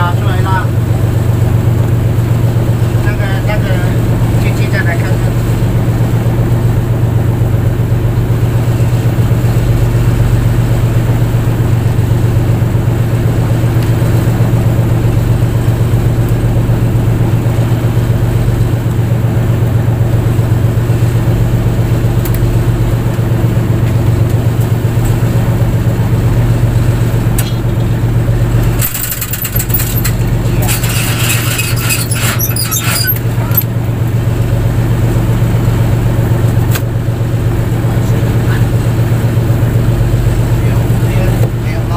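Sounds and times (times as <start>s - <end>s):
boat engine humming: 0.0s - 41.9s.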